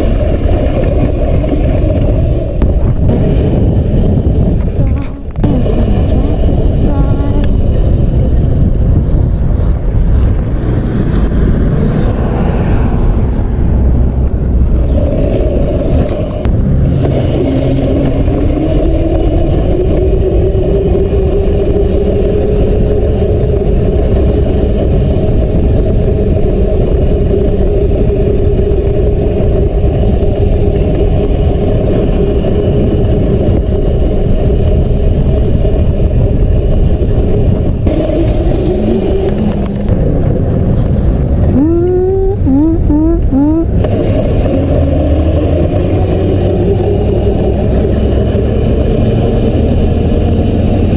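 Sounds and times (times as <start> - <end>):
dirt bike engine running: 0.0 - 11.8, 14.2 - 50.9.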